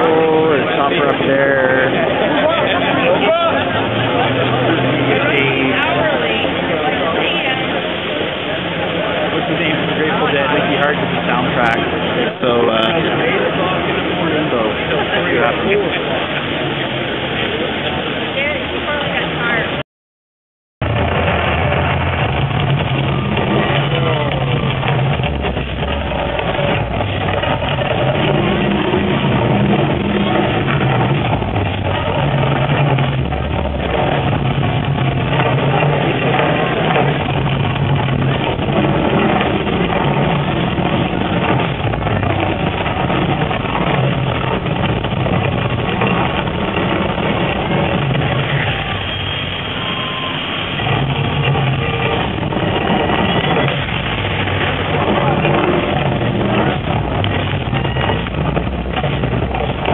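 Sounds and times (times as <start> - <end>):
deep steady tones soundtrack: 0.0 - 19.7, 20.8 - 59.9
flame effects rumbling: 0.0 - 19.8, 20.8 - 59.9
gas fire roaring: 0.0 - 19.8, 20.8 - 59.9.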